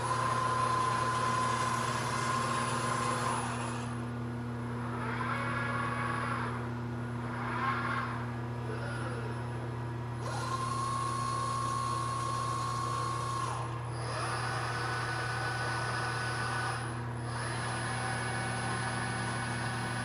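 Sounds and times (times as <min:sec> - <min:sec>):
robot servo drives whining: 0:00.0 - 0:04.0, 0:04.9 - 0:06.6, 0:07.2 - 0:09.4, 0:10.2 - 0:20.0.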